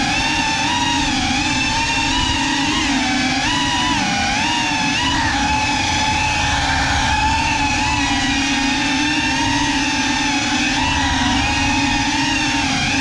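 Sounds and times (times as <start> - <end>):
quadcopter propellers whining: 0.0 - 13.0.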